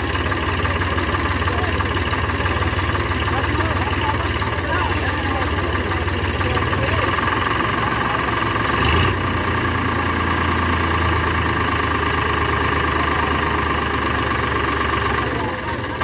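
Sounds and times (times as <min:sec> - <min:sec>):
tractor diesel engine running: 0:00.0 - 0:16.0
trailer clatter: 0:00.0 - 0:16.0.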